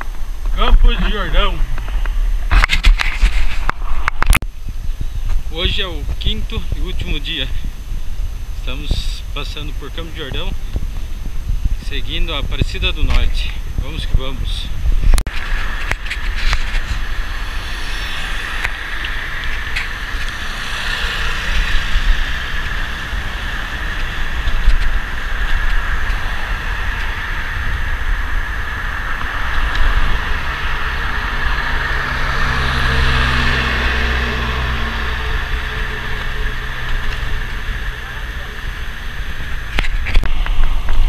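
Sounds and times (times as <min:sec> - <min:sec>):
bicycle tyres on asphalt: 0:00.0 - 0:41.0
vehicle engine hum: 0:00.0 - 0:41.0
wind rushing over microphone: 0:00.0 - 0:41.0.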